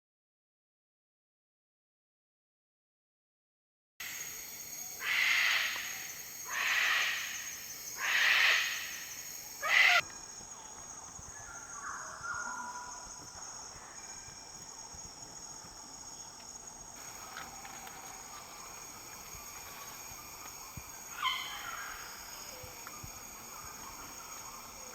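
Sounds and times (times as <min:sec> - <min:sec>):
insects buzzing: 0:04.0 - 0:24.9.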